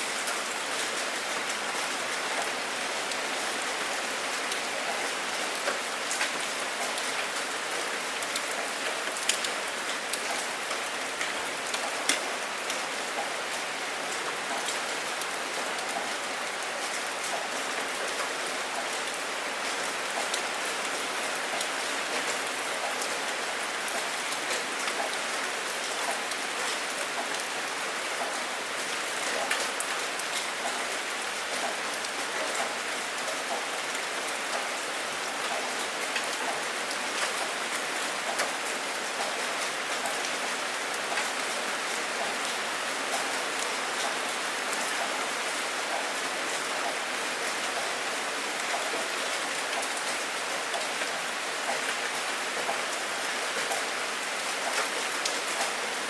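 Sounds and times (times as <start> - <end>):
rain on hard surface: 0.0 - 56.0.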